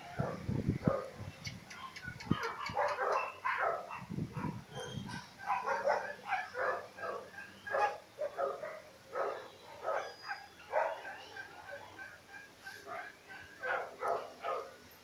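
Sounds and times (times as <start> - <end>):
animals calling: 1.5 - 14.9.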